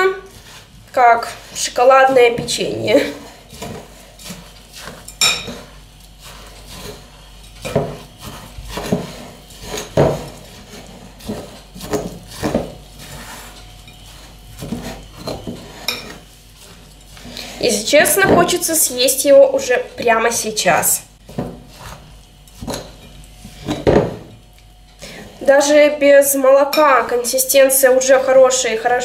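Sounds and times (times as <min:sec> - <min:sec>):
hands squishing wet dough: 0:00.2 - 0:20.2, 0:21.2 - 0:25.6.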